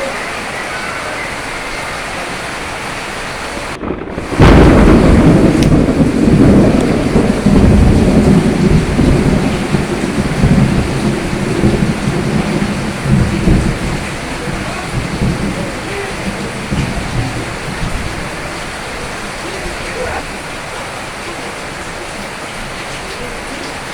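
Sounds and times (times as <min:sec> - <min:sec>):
steady rain: 0:00.0 - 0:23.9
thunder clap and rumble: 0:00.0 - 0:23.9.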